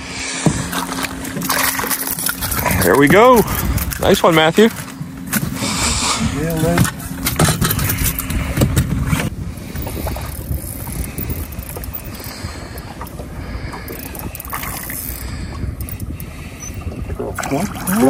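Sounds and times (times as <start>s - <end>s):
low steady hum: 0.0s - 18.0s
wind rumbling on microphone: 0.0s - 18.0s.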